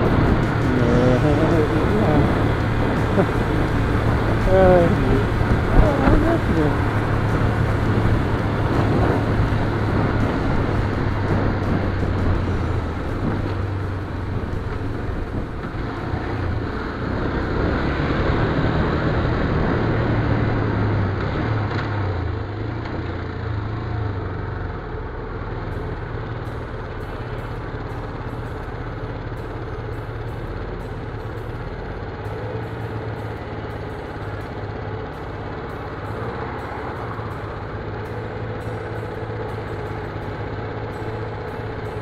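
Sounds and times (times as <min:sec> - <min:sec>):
motorcycle engine running: 0:00.0 - 0:42.0
wind and road noise: 0:00.0 - 0:42.0.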